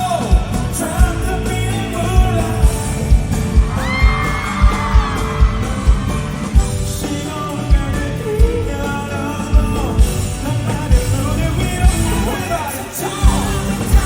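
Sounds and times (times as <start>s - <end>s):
heavy kick-drum beats: 0.0s - 14.0s
pop-rock band with singing: 0.0s - 14.0s.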